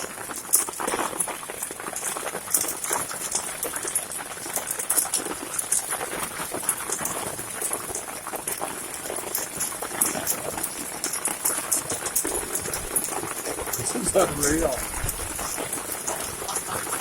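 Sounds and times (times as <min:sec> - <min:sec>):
hailstones pelting down: 0:00.0 - 0:17.0.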